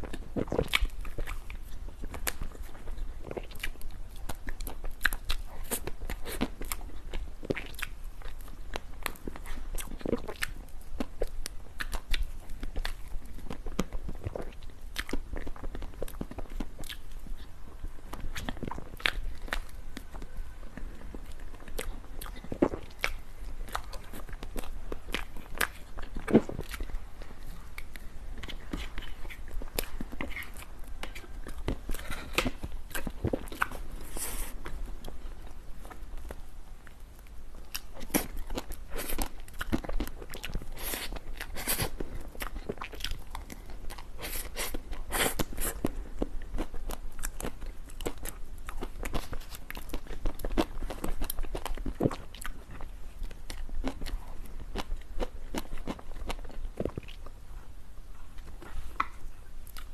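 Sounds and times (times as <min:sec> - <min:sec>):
person chewing crunchy dessert: 0:00.0 - 0:59.9.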